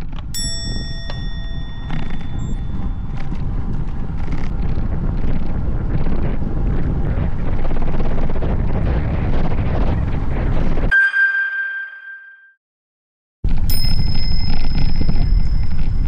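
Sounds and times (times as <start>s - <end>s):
wind buffeting microphone: 0.0s - 10.9s, 13.5s - 16.0s.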